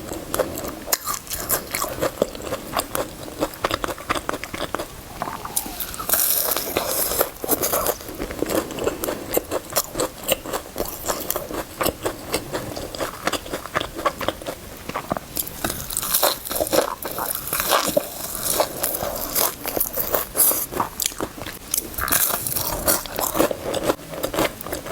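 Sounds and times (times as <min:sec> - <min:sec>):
crunchy eating and chewing: 0:00.0 - 0:24.9.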